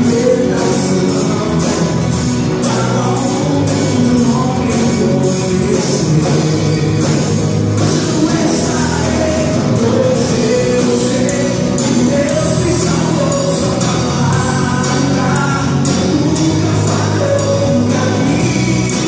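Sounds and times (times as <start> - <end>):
gospel band playing: 0.0 - 19.0
people singing: 0.0 - 19.0.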